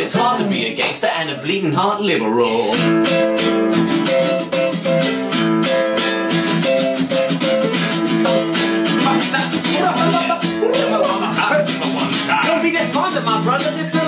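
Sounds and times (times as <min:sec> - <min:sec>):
acoustic guitars strumming chords: 0:00.0 - 0:14.0.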